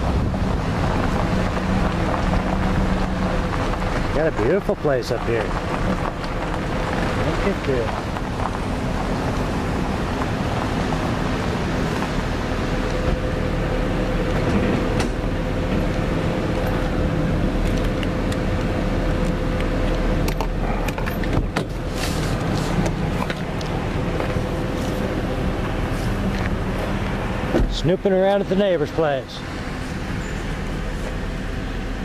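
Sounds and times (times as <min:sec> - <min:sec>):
vehicle engine and road noise: 0:00.0 - 0:32.0.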